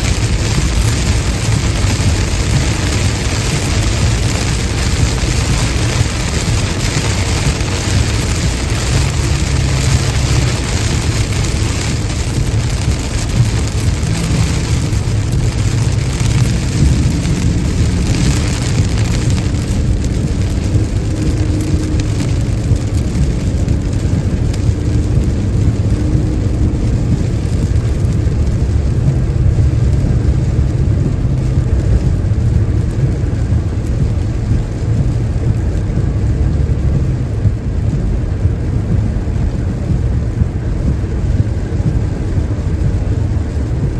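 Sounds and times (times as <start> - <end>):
rain and spray hiss: 0.0 - 43.9
road and tyre rumble: 0.0 - 43.9.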